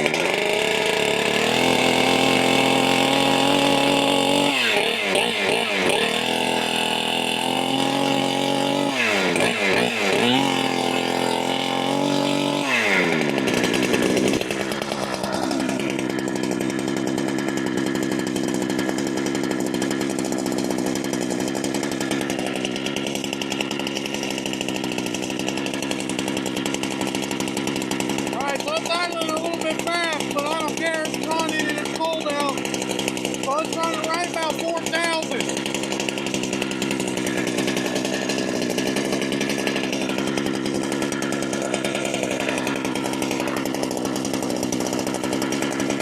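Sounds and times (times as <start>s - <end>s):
chainsaw revving and idling: 0.0s - 46.0s.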